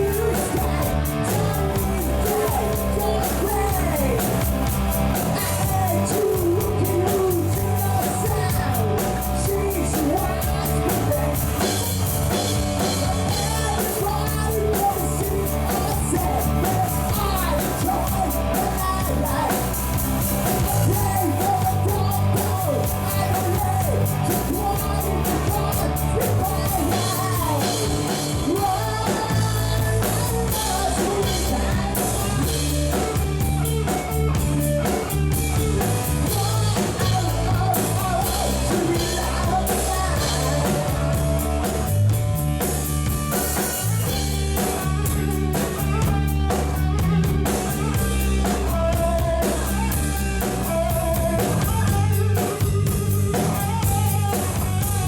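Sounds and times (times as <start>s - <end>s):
rock music with singing: 0.0s - 55.0s.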